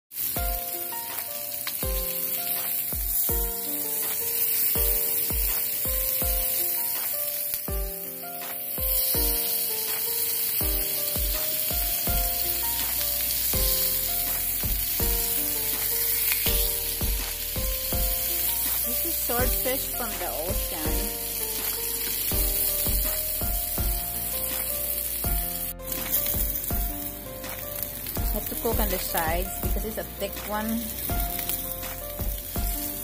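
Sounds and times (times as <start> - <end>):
fish sizzling in a frying pan: 0.1 - 33.0
background music with a beat: 0.4 - 30.5, 31.1 - 33.0.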